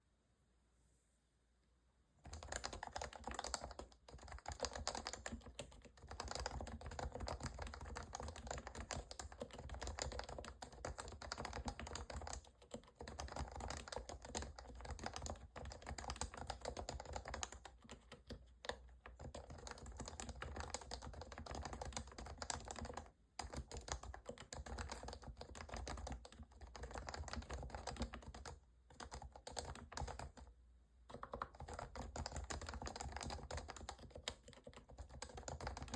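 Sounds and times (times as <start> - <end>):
fast typing on keyboard: 2.2 - 30.5, 31.1 - 35.9.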